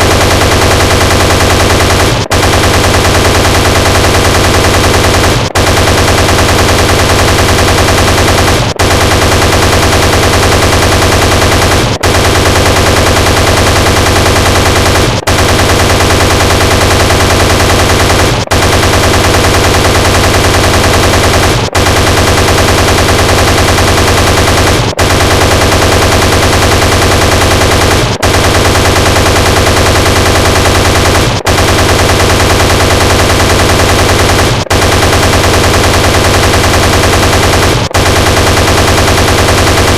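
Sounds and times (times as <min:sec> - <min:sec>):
chain gun firing: 0:00.0 - 0:39.9.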